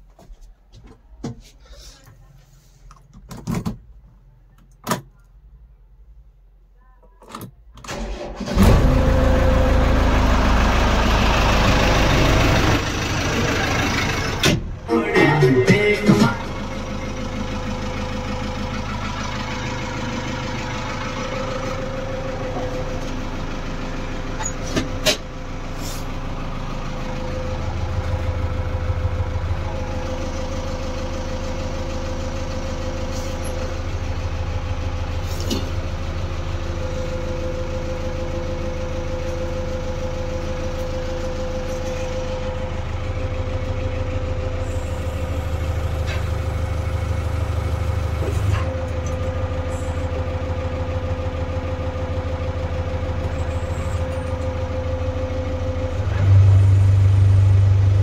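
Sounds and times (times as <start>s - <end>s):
diesel engine idling: 7.9s - 58.0s.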